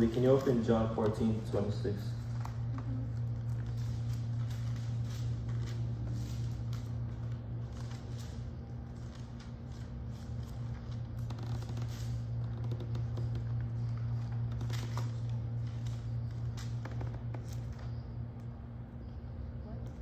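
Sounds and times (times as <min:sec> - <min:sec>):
book pages rustling: 0:00.0 - 0:18.2
steady low hum: 0:00.0 - 0:20.0.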